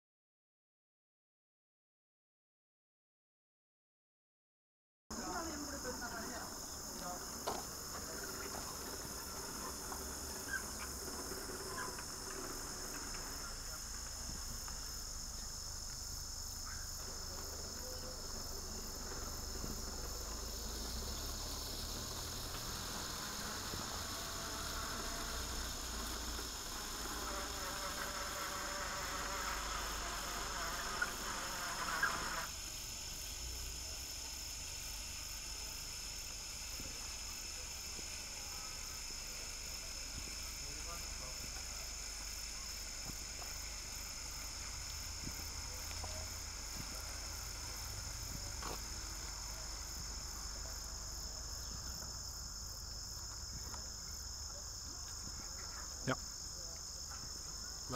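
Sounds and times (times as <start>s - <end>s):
crickets chirping: 5.1s - 57.9s
firework crackling and hissing: 5.2s - 53.7s.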